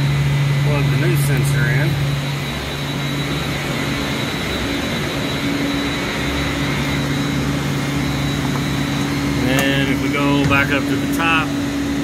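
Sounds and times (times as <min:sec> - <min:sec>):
higher machinery hum: 0:00.0 - 0:12.0
machinery low hum: 0:00.0 - 0:12.0.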